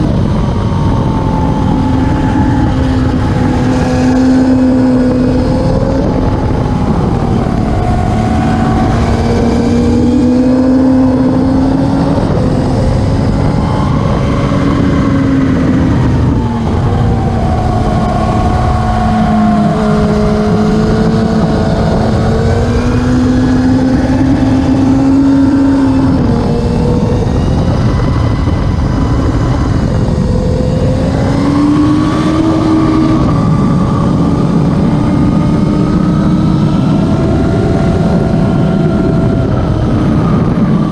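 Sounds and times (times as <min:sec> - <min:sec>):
motorcycle engines at high revs: 0:00.0 - 0:40.9.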